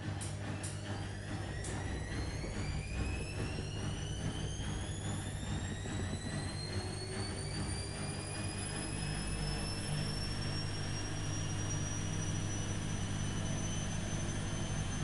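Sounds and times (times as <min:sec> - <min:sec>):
high motor whine: 0:00.0 - 0:15.0
washing machine humming: 0:00.0 - 0:15.0.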